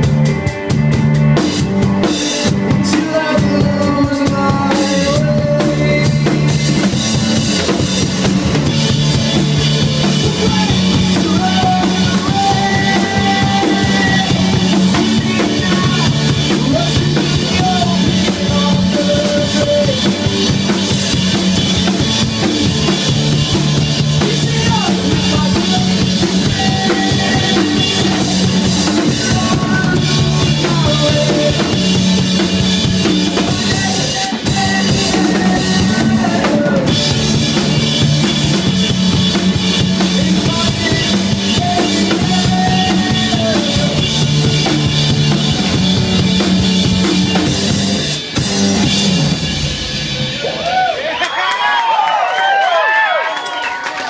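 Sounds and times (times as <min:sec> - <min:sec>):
electric guitar: 0:00.0 - 0:51.3
live rock band playing: 0:00.0 - 0:51.8
drum kit: 0:00.0 - 0:54.0.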